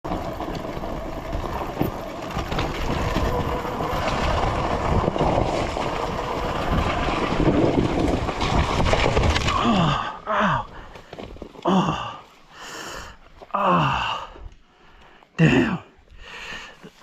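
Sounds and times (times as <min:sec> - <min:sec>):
bike rattling on rough ground: 0:00.0 - 0:14.2.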